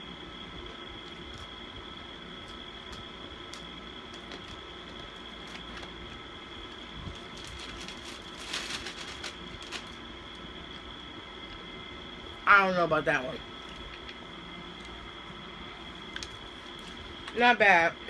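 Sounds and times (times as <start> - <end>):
crackles: 0.1 - 12.4, 13.4 - 18.0.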